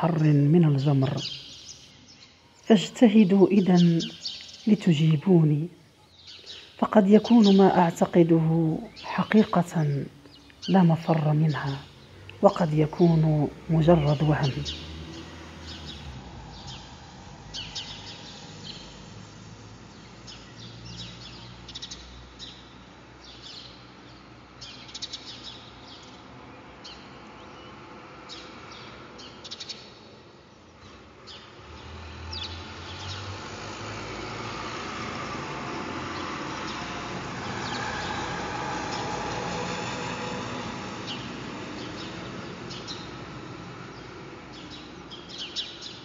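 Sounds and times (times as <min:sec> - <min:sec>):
small birds chirping: 0:00.0 - 0:33.6, 0:35.8 - 0:46.0.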